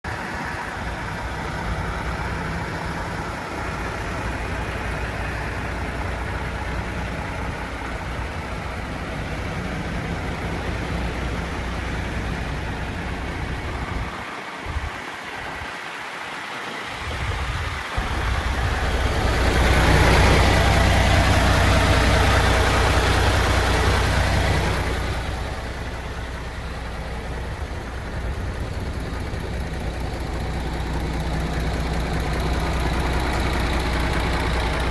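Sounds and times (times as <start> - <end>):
diesel truck engine idling: 0.0 - 15.7, 16.9 - 34.9.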